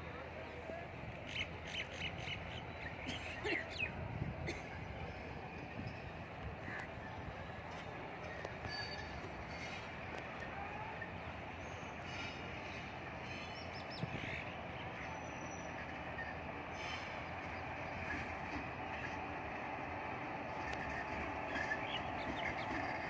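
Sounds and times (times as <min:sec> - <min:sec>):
train running on rails: 0:00.0 - 0:23.0.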